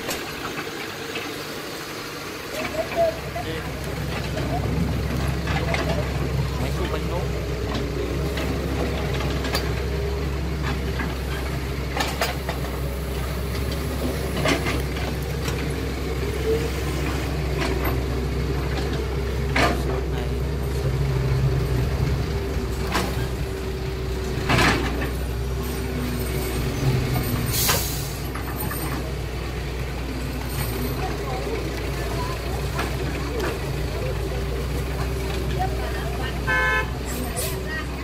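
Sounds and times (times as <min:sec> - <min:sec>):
model bulldozer motor hum: 0:00.0 - 0:27.5, 0:28.1 - 0:38.0.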